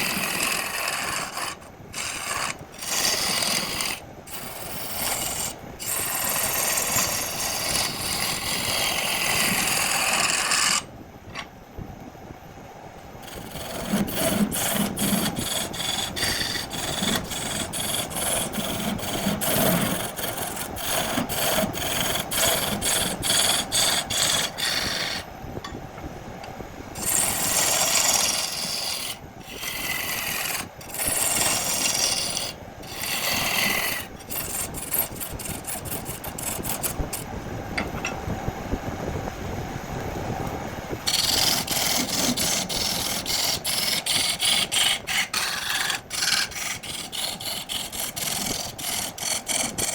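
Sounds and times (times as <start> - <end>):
tool rasping on wood: 0.0 - 10.9, 13.2 - 25.3, 27.0 - 37.2, 41.0 - 49.9.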